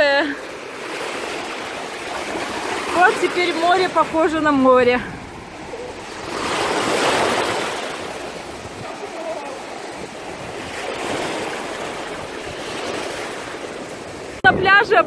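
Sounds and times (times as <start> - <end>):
small waves breaking on shore: 0.0 - 15.0.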